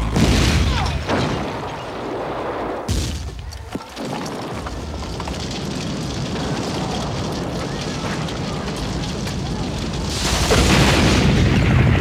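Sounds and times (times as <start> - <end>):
debris crashing and breaking: 0.0 - 12.0
loud blasts: 0.0 - 12.0.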